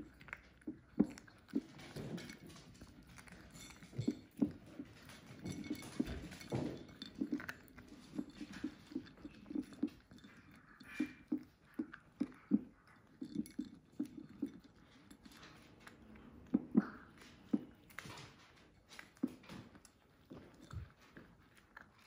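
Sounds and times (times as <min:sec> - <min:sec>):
puppy crunching dry kibble: 0:00.0 - 0:22.0.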